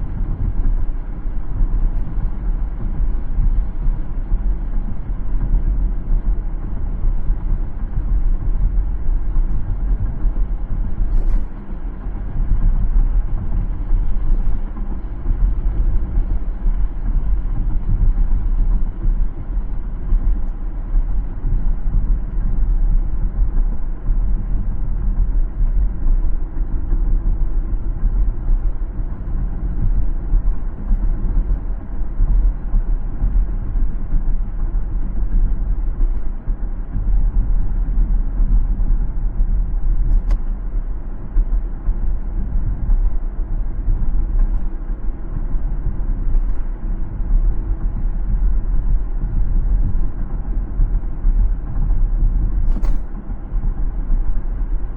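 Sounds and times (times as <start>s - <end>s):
car road rumble: 0.0s - 54.9s.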